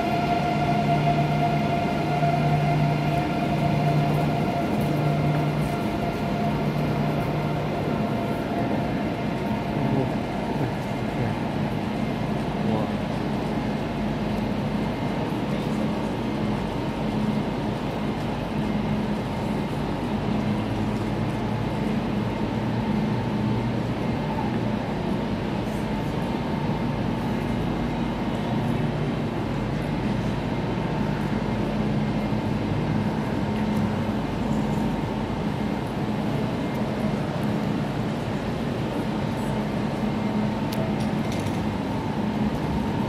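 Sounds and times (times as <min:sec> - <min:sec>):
electric train hum: 0:00.0 - 0:43.0.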